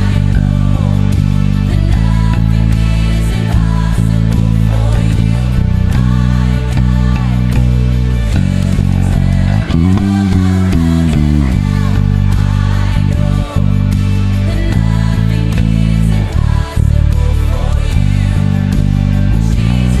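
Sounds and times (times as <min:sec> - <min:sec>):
band playing worship song: 0:00.0 - 0:20.0
electric bass guitar low notes: 0:00.0 - 0:20.0.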